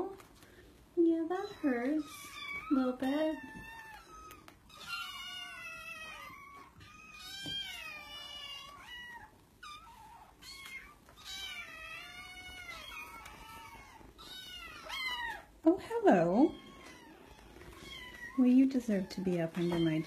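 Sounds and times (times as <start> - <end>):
kittens meowing: 1.4 - 15.6, 16.2 - 20.0.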